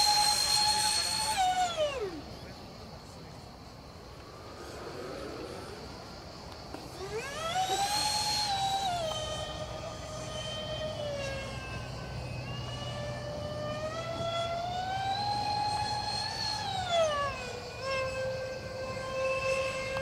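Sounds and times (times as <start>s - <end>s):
electric ducted fans whining: 0.0s - 20.0s.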